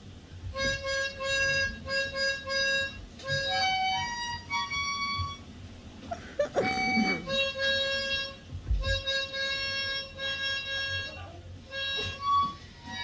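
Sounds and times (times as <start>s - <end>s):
reedy harmonica-like tune: 0.5s - 5.5s, 6.1s - 13.0s.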